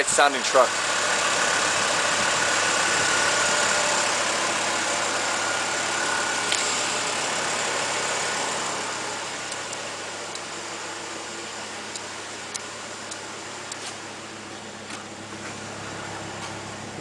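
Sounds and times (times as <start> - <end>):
car engine idling quietly: 0.0 - 17.0.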